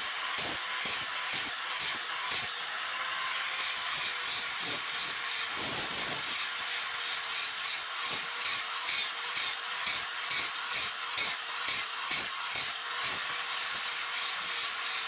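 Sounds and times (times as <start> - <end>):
angle grinder motor whine: 0.0 - 15.0.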